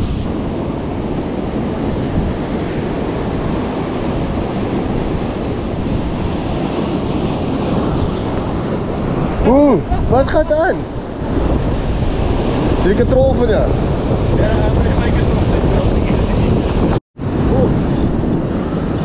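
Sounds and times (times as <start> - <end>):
sea surf: 0.0 - 19.0
wind rumbling on microphone: 0.0 - 19.0.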